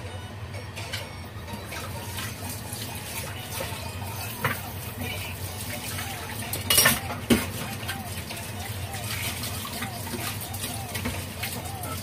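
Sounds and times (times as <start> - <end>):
water boiling in pot: 0.0 - 12.0.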